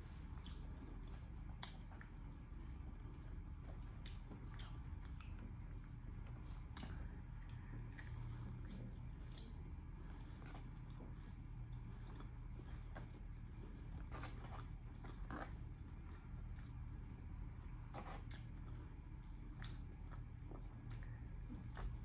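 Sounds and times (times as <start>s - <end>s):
person chewing food: 0.0s - 22.0s
steady low hum: 0.0s - 22.0s.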